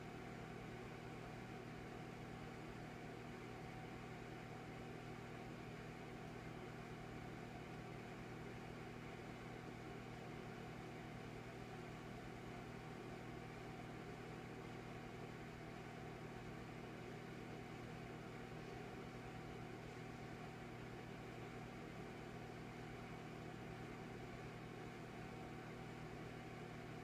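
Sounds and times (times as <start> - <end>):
electric fireplace fan humming: 0.0 - 27.0.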